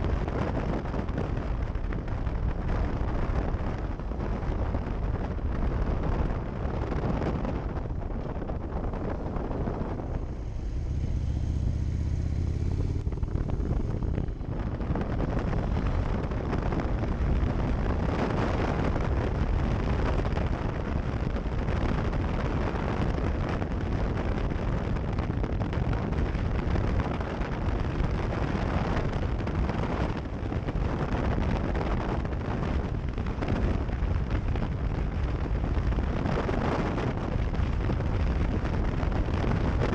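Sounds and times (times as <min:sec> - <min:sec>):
low engine hum: 0:00.0 - 0:39.9
vehicle wind and road rumble: 0:00.0 - 0:39.9.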